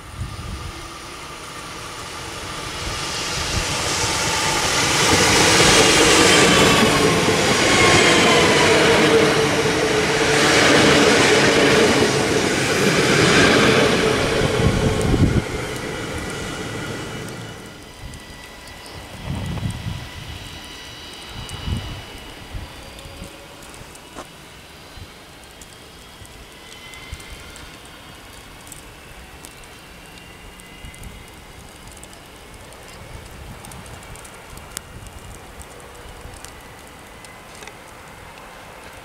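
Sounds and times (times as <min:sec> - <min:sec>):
train motor whine: 0:00.0 - 0:34.1
train wheels and air rushing: 0:00.0 - 0:39.0.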